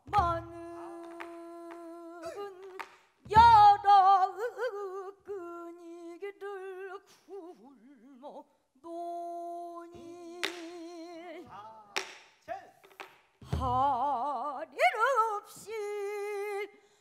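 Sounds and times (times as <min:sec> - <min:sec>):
woman singing with vibrato: 0:00.0 - 0:11.6, 0:13.4 - 0:16.8.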